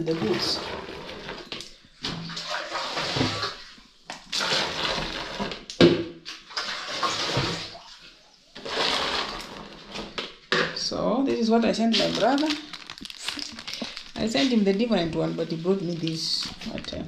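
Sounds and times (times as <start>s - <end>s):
water sloshing and pouring: 0.0s - 10.2s, 11.8s - 17.0s.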